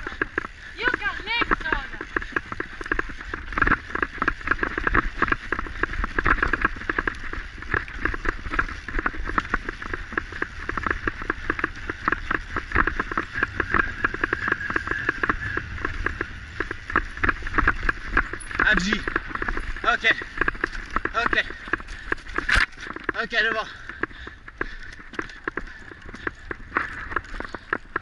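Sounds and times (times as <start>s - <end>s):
microphone rumble: 0.0s - 22.9s
bike rattling over dirt trail: 0.0s - 28.0s.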